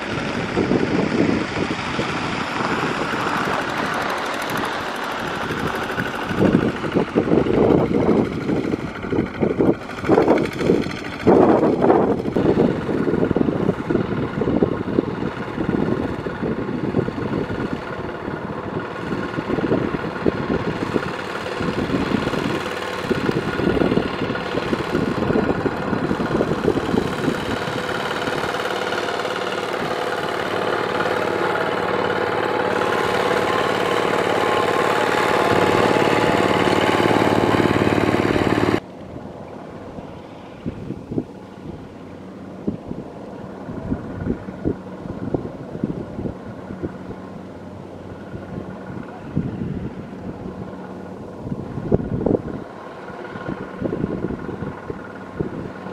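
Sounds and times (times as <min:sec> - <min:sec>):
diesel engines running under load: 0:00.0 - 0:55.9.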